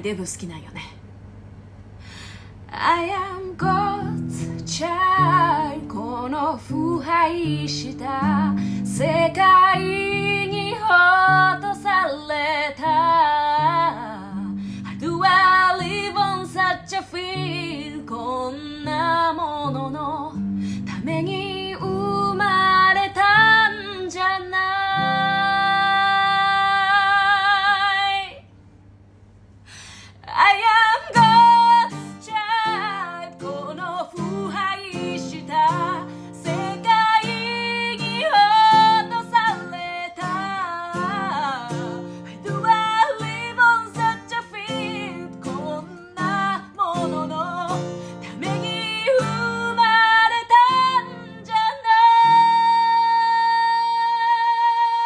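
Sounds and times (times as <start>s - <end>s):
acoustic guitar: 2.4s - 28.4s, 29.8s - 55.0s
woman singing a slow ballad: 2.7s - 28.4s, 30.2s - 55.0s.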